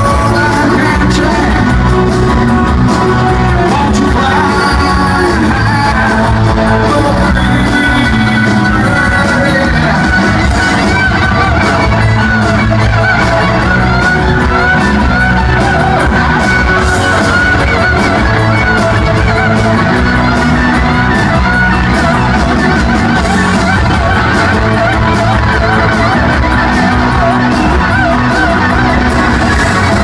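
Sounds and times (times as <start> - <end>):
crowd shouting: 0.0 - 30.0
rock band playing live: 0.0 - 30.0.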